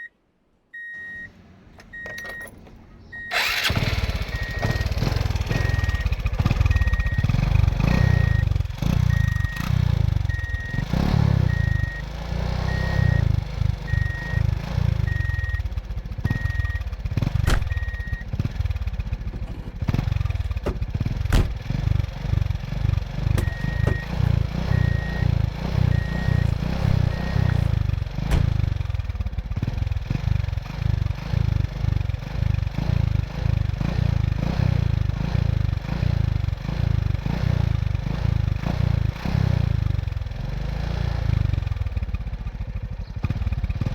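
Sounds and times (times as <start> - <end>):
excavator diesel engine rumbling: 0.8 - 37.4.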